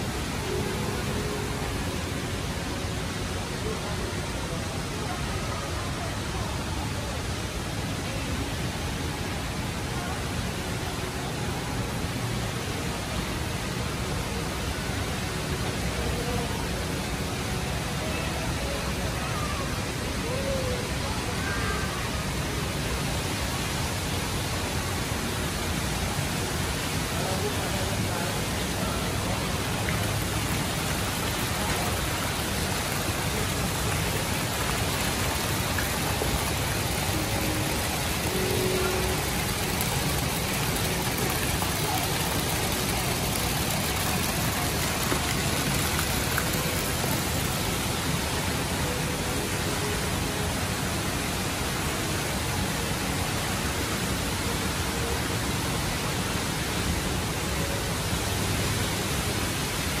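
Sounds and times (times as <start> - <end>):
faint distant voices: 0.0 - 60.0
indoor waterfall rushing: 0.0 - 60.0.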